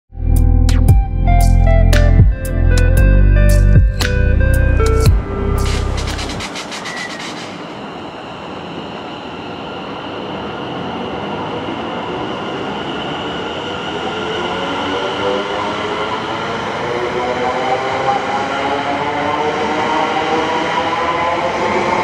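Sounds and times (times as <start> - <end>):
passenger train accelerating: 1.3 - 22.0
train whine rising in pitch: 2.6 - 22.0.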